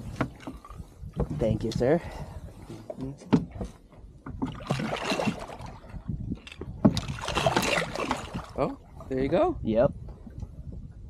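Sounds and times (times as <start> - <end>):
water splashing and sloshing: 0.0 - 9.4.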